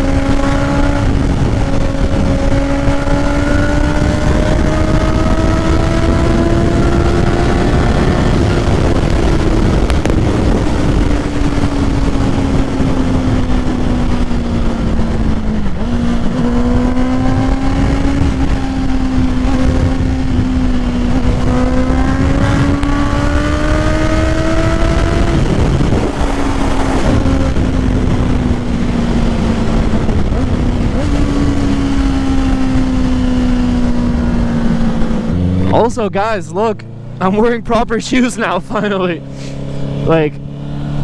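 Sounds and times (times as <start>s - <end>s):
wind noise on microphone: 0.0s - 36.3s
motorcycle engine cruising: 0.0s - 41.0s.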